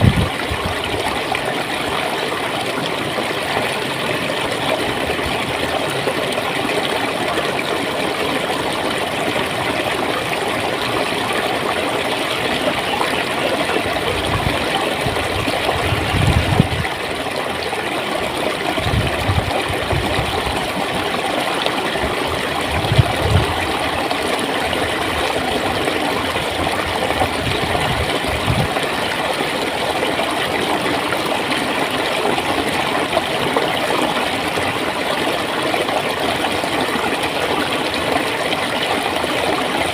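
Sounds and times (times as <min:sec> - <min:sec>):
water flowing over stones: 0:00.0 - 0:39.9.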